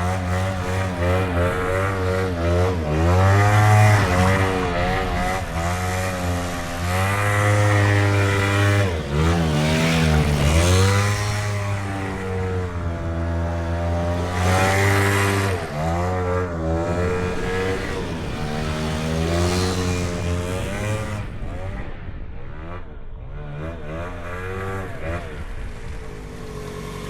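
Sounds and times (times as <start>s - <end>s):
quad bike engine revving: 0.0s - 22.8s, 23.4s - 27.0s.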